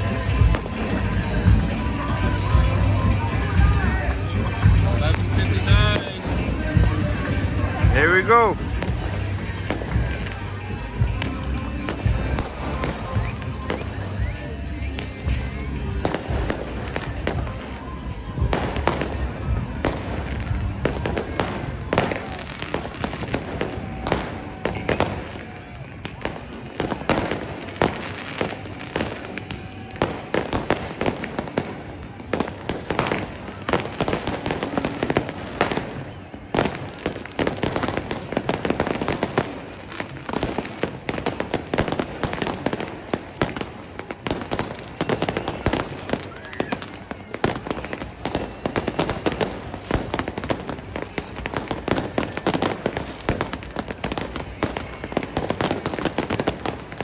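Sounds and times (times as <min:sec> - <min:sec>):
fireworks bangs and crackles: 0:00.0 - 0:57.0
voices: 0:00.0 - 0:57.0.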